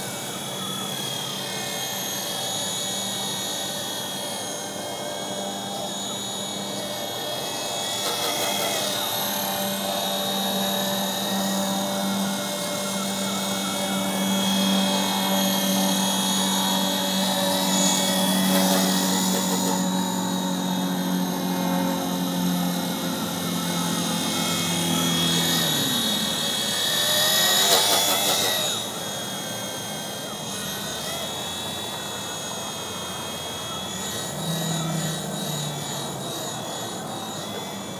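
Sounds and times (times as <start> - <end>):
electric motor and gears whining: 0.0 - 37.9
rotor hum: 0.0 - 37.9.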